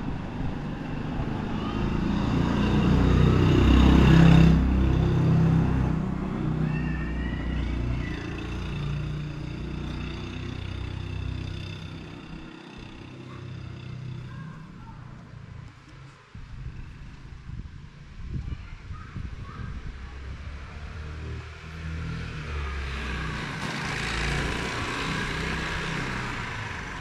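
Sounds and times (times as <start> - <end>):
vehicle driving past: 0.0 - 17.6, 20.1 - 27.0.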